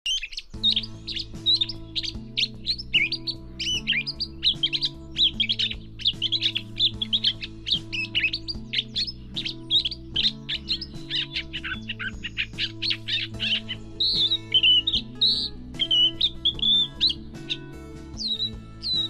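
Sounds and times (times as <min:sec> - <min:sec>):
catbird singing: 0:00.0 - 0:19.0
background music with low chords: 0:00.5 - 0:19.0.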